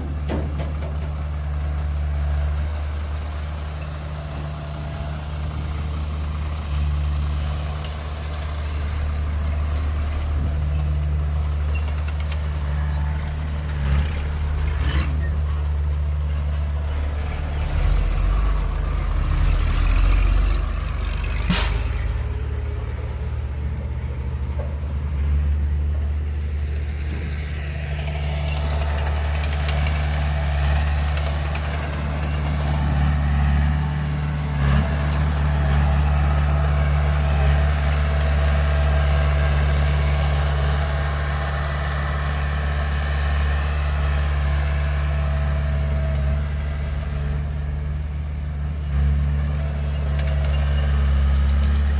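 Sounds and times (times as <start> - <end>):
heavy diesel engines droning: 0.0 - 51.9.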